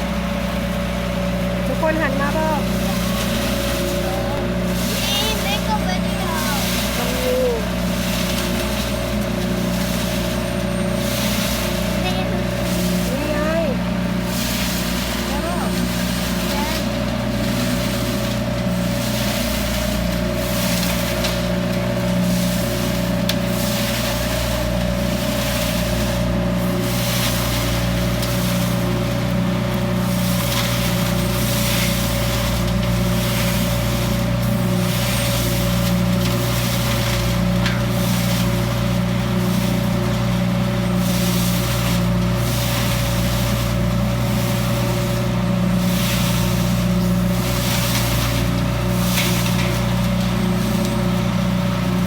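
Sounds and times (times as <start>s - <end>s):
truck machine drone: 0.0s - 52.0s.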